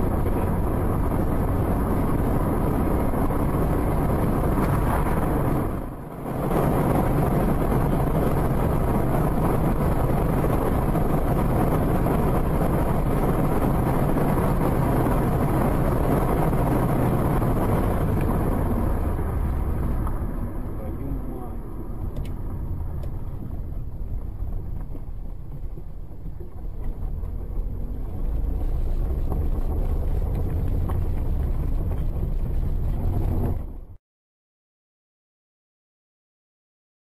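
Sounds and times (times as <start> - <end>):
wind noise on microphone: 0.0 - 20.8, 21.8 - 34.0
car road and engine noise: 0.0 - 34.0.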